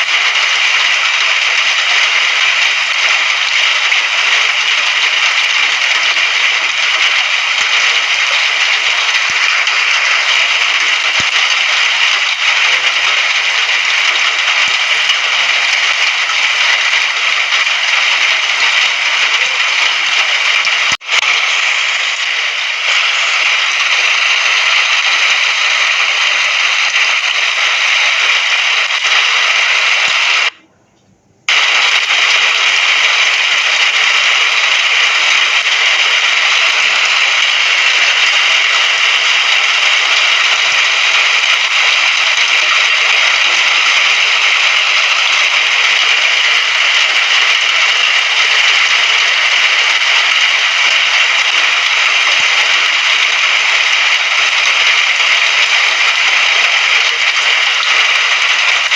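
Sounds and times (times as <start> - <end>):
steady rain: 0.0 - 30.6, 31.5 - 58.9.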